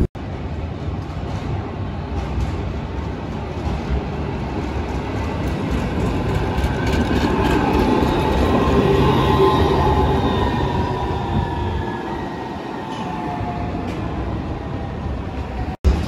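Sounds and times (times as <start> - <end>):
electric tram rumbling past: 0.0 - 16.0.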